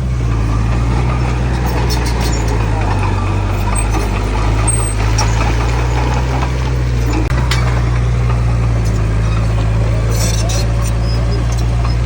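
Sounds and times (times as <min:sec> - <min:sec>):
heavy diesel engine drone: 0:00.0 - 0:12.0.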